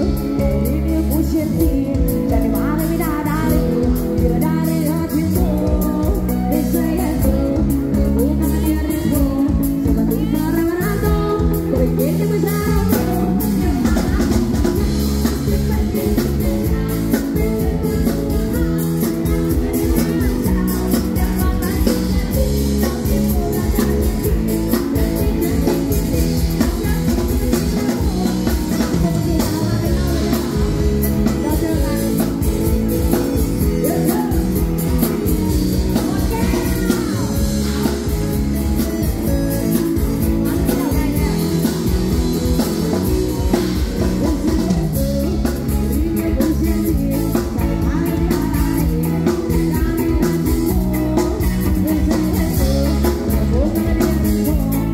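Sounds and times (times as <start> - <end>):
drum kit: 0.0 - 54.9
electric guitar: 0.0 - 54.9
woman singing lead: 0.0 - 54.9.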